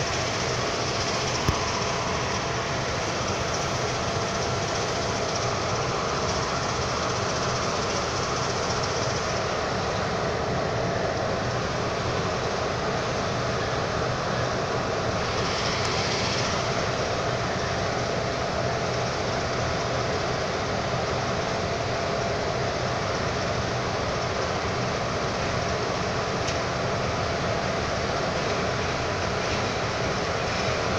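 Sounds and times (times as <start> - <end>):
diesel locomotive engine drone: 0.0 - 30.9
faint steady whine: 0.0 - 30.9.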